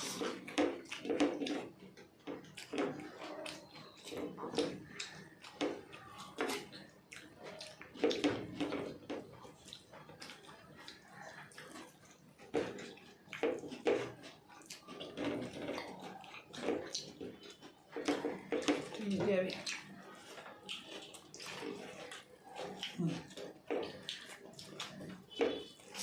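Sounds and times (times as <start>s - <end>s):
people chewing food wetly: 0.0s - 26.0s.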